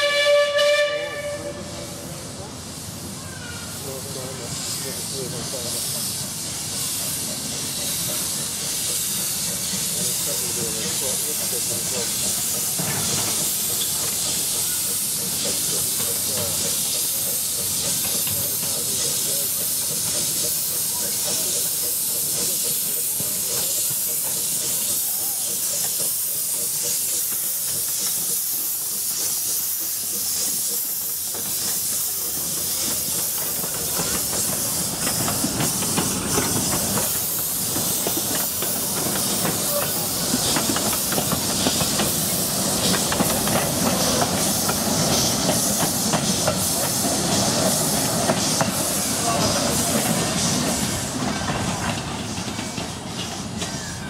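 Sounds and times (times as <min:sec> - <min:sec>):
steam locomotive hissing: 0:00.0 - 0:54.0
train clattering: 0:00.0 - 0:54.0.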